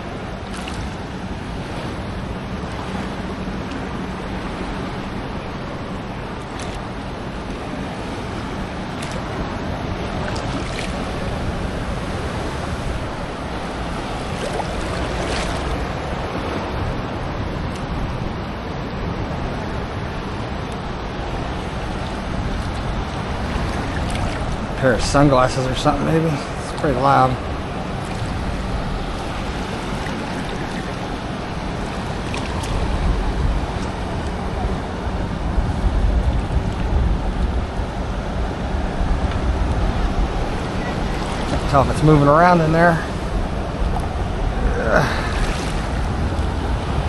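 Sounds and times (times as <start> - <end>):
ocean surf washing: 0.0 - 47.0
wind buffeting microphone: 0.0 - 47.0.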